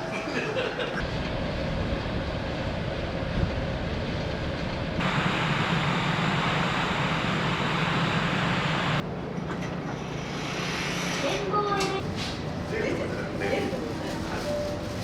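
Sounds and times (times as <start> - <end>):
ship engine hum: 1.0 - 15.0.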